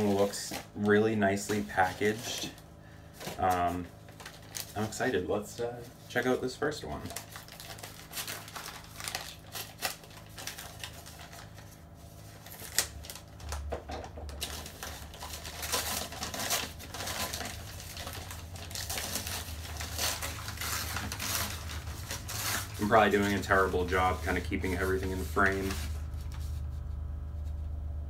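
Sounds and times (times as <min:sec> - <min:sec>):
packing material rustling and crinkling: 0:00.0 - 0:27.6.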